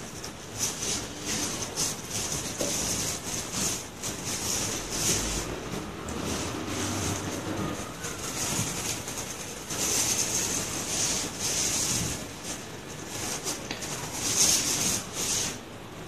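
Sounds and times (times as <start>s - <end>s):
squeegee swishing across glass: 0.0s - 15.6s.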